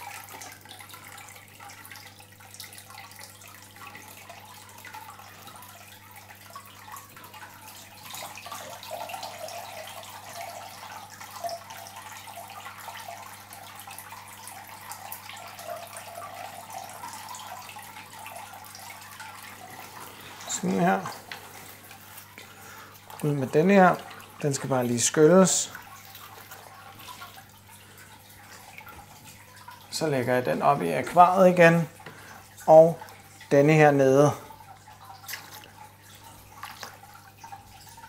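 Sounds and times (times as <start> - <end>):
water trickling and dripping: 0.0 - 38.0.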